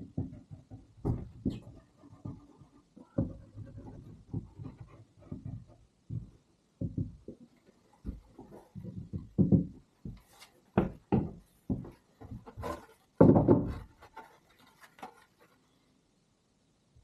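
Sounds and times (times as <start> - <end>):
knocks and thumps: 0.0 - 14.3.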